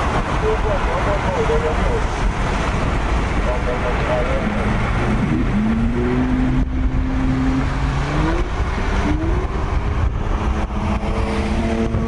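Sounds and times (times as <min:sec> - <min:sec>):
car exhaust accelerating: 0:00.0 - 0:12.0
road noise: 0:00.0 - 0:12.0.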